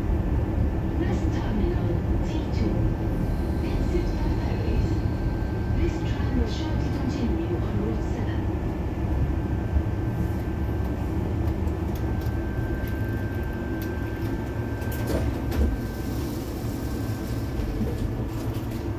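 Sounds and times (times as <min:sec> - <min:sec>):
tram rumbling on rails: 0:00.0 - 0:18.9.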